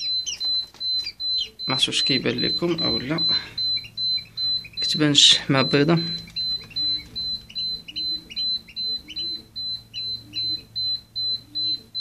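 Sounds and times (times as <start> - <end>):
rapid high-pitched electronic beeping: 0.0 - 12.0.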